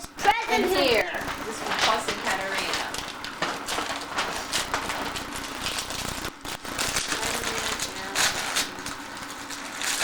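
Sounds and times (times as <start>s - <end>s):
wrapping paper rustling and tearing: 0.8s - 10.0s.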